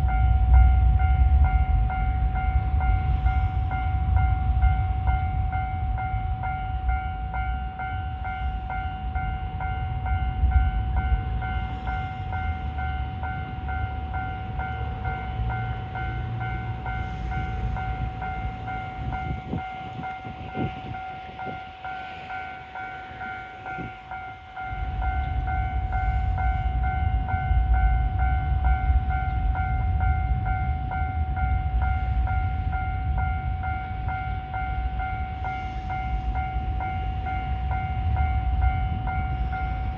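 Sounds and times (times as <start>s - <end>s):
level crossing alarm bell: 0.0s - 39.9s
train low rumble: 0.0s - 39.9s.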